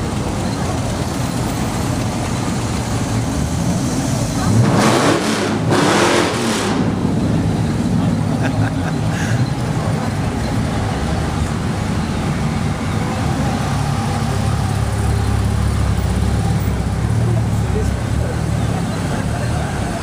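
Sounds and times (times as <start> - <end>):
car engines rumbling: 0.0 - 20.0.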